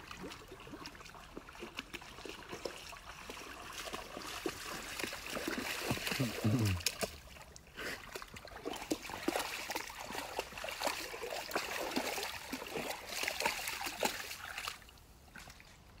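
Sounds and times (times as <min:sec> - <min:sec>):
dog splashing through water: 0:00.0 - 0:15.8.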